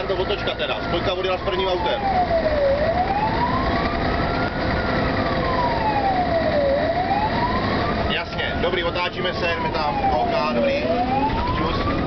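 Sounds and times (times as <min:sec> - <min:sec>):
engine and road noise: 0:00.0 - 0:12.0
fire engine siren wailing: 0:00.0 - 0:12.0.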